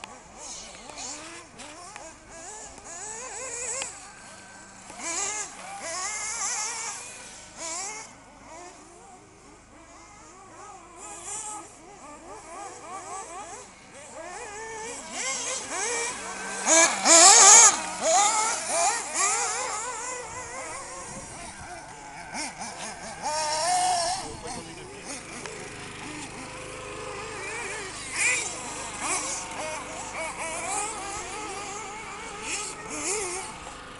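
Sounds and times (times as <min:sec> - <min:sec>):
rc car engines revving: 0:00.0 - 0:33.9.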